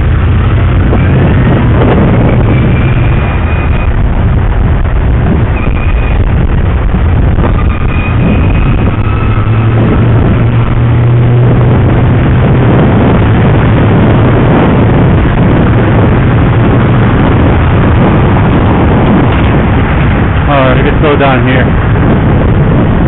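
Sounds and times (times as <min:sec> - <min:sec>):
loud traffic noise: 0:00.0 - 0:23.0
passing vehicle engine drone: 0:00.0 - 0:23.0.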